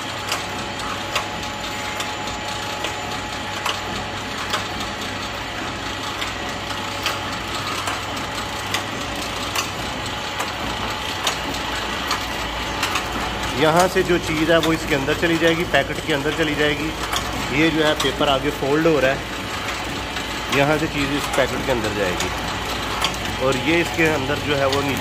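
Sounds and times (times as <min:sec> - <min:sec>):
packing machine hum: 0:00.0 - 0:25.0.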